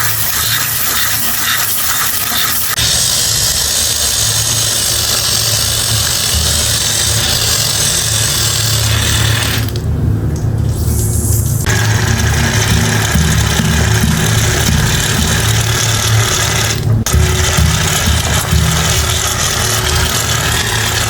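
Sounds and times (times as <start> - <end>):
loud hiss: 0.0 - 9.8, 10.8 - 21.0
motor humming: 2.1 - 21.0.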